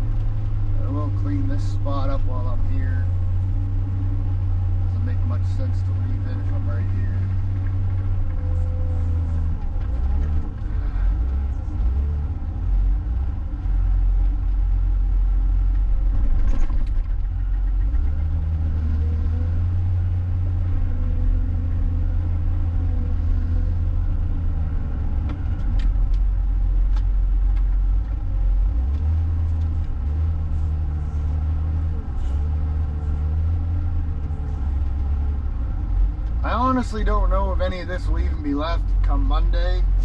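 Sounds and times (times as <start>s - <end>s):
loader diesel engine drone: 0.0s - 40.0s.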